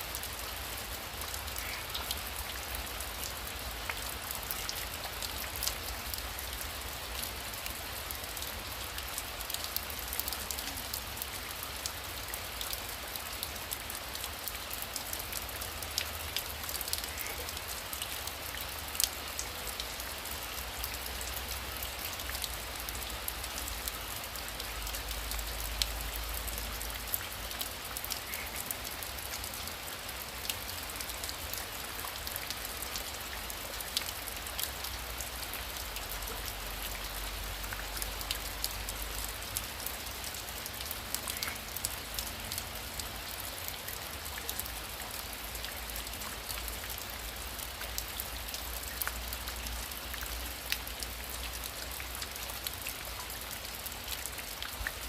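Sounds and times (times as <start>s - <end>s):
heavy rain: 0.0s - 55.0s
raindrops ticking on surface: 0.0s - 55.0s.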